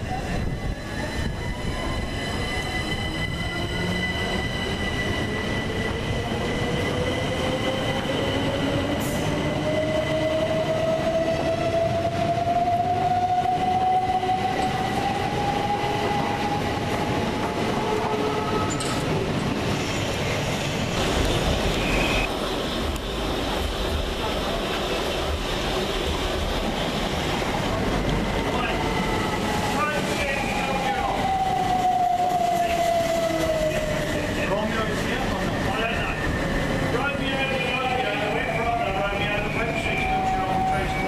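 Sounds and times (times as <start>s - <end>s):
wheels rumbling on rail: 0.0s - 41.0s.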